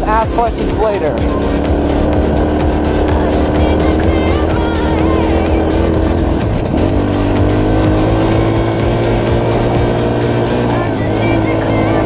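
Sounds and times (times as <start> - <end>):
background music: 0.0 - 12.0
dirt bike engine running: 0.0 - 12.0.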